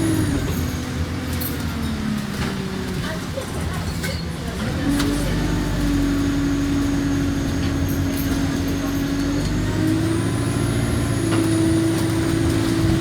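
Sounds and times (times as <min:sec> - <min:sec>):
bus engine whining and rumbling: 0:00.0 - 0:13.0.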